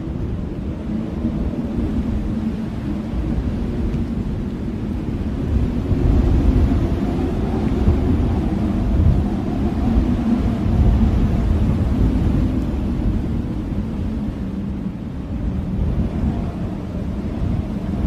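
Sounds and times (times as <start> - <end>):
blizzard wind roaring: 0.0 - 18.0.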